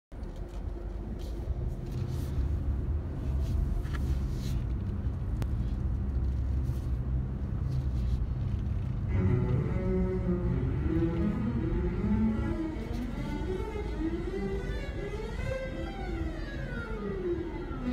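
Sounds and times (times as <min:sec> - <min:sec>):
car engine and tyre hum: 0:00.1 - 0:17.9.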